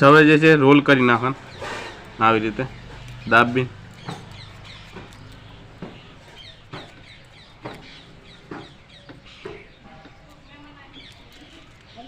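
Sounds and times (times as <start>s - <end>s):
high bird chirps: 1.1s - 12.0s
bird clucks: 1.2s - 12.0s.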